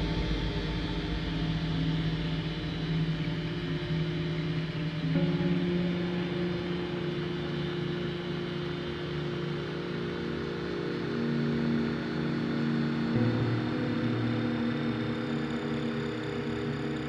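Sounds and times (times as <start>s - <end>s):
ambient drone music: 0.0s - 17.0s.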